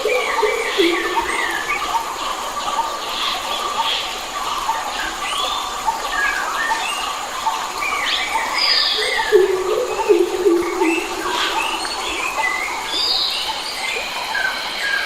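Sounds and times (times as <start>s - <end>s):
forest birds singing: 0.0s - 15.0s
steady background hiss: 0.0s - 15.0s.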